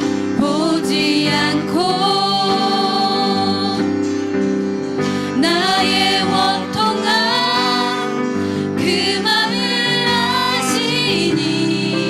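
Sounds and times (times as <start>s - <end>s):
guitar: 0.0s - 12.0s
worship band playing: 0.0s - 12.0s
woman singing: 0.4s - 4.0s, 5.3s - 12.0s.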